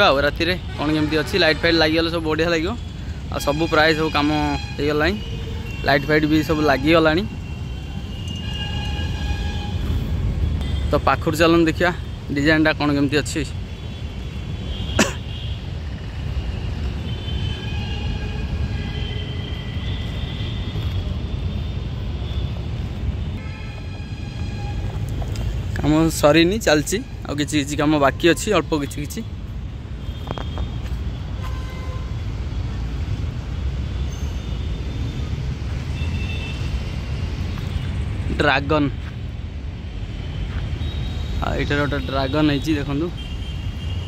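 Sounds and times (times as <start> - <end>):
distant road traffic rumble: 0.0 - 44.0.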